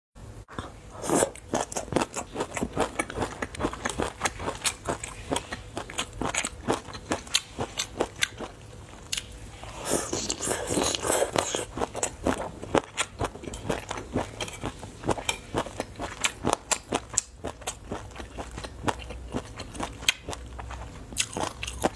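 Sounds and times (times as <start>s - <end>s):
wet crackling chewing: 0.6s - 21.9s.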